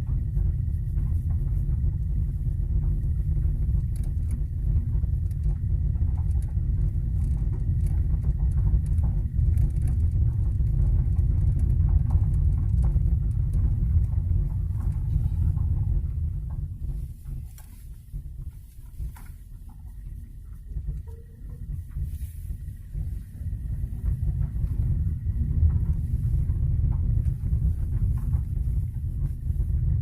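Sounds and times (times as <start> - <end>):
light knocks and clicks: 0.0 - 29.7
car cabin road rumble: 0.0 - 30.0.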